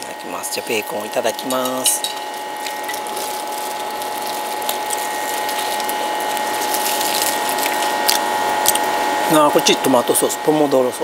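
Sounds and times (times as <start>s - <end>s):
crust being chewed: 0.1s - 9.3s.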